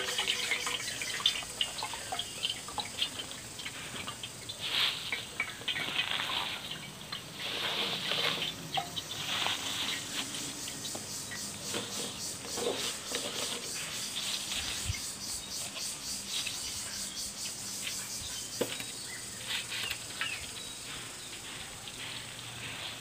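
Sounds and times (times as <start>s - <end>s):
leaves rustling: 0.0s - 23.0s.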